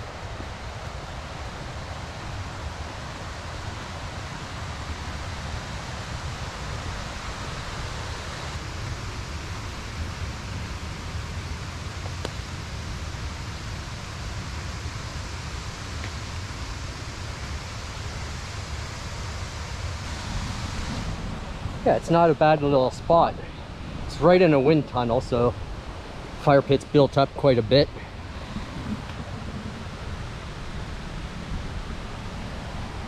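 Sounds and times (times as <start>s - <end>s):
low wind rumble: 0.0s - 33.0s
waterfall and river rapids rushing: 0.0s - 33.0s.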